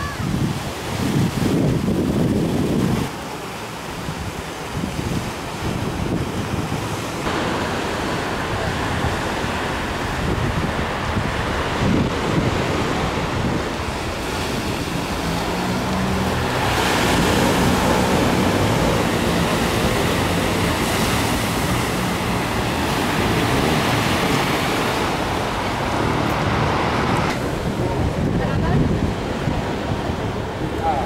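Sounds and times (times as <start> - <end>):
waves on a pebble beach: 0.0 - 31.0.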